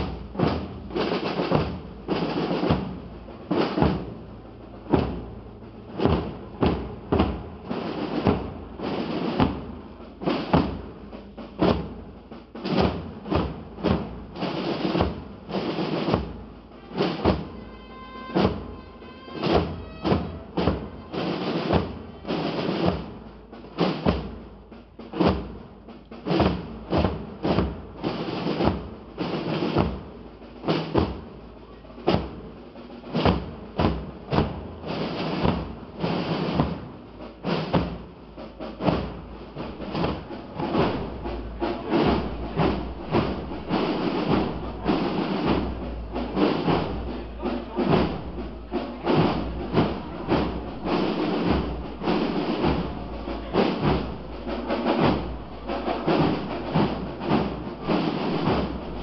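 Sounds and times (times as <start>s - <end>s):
large drums beating slow rhythm: 0.0s - 59.0s.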